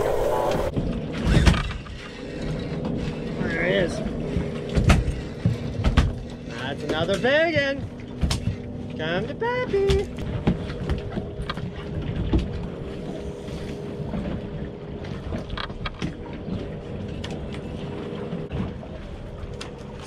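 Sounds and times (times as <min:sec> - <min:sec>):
boat engine rumble and hum: 0:00.0 - 0:20.0.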